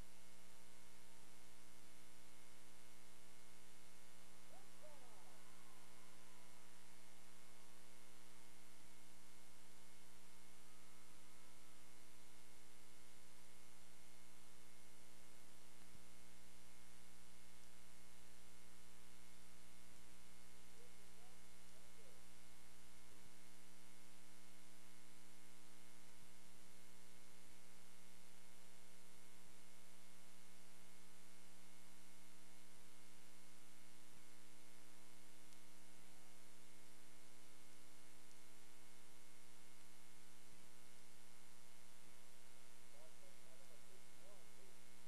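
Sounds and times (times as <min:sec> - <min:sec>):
electrical hum and buzz: 0:00.0 - 0:45.0.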